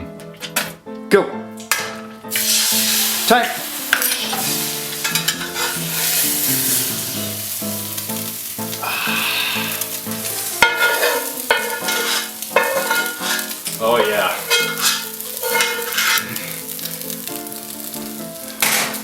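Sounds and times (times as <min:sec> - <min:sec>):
background music: 0:00.0 - 0:19.0
steady sizzling hiss: 0:02.0 - 0:19.0.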